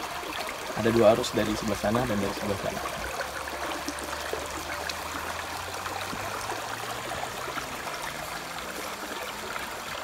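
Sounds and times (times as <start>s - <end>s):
stream trickling over stones: 0.0s - 10.0s.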